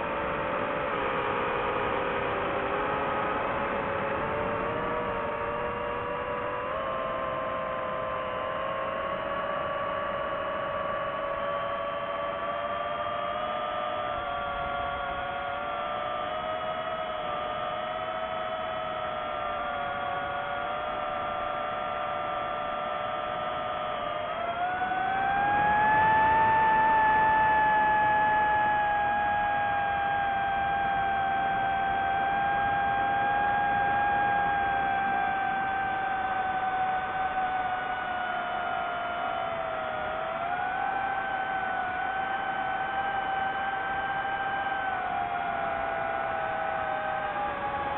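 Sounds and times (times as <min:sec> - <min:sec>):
drone propellers whining: 0:00.0 - 0:47.9.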